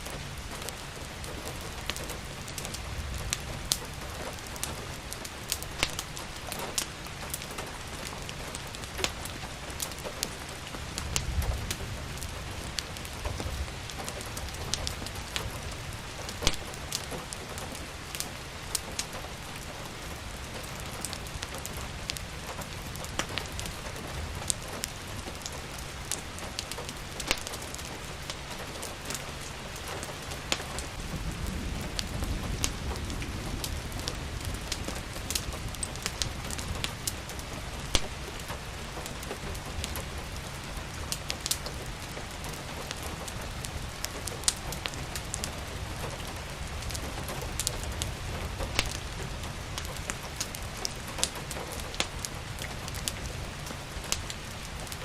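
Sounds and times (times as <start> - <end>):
fireplace crackling and popping: 0.0 - 55.0
steady rain falling: 0.0 - 55.0.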